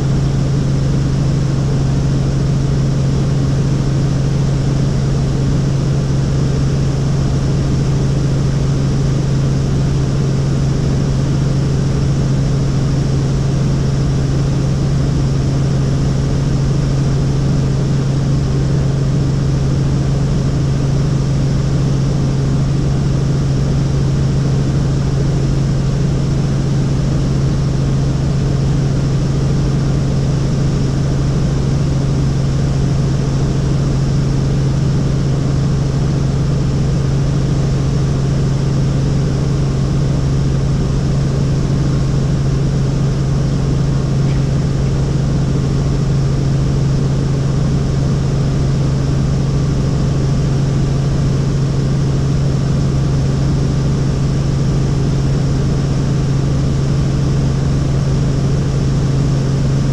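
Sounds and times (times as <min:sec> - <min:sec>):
helicopter engine and rotors droning: 0:00.0 - 0:59.9.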